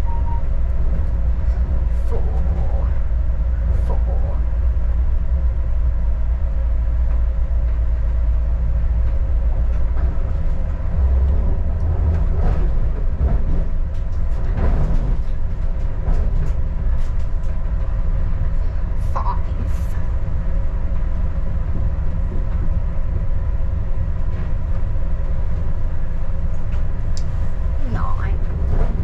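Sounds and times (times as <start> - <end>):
train engine and wheels rumbling: 0.0 - 29.0.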